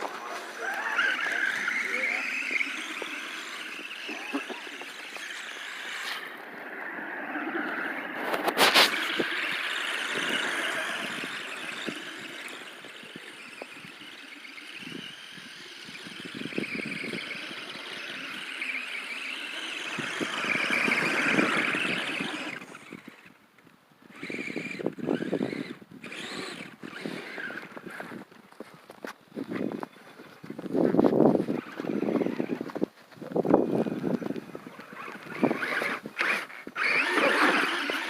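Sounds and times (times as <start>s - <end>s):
toy truck motor whining: 0.0s - 23.4s, 24.1s - 28.3s, 31.4s - 32.8s, 33.5s - 38.0s.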